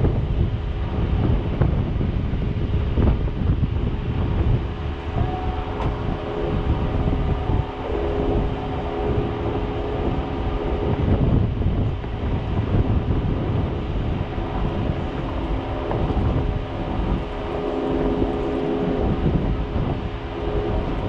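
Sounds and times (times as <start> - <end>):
car engine humming: 2.6 - 21.0.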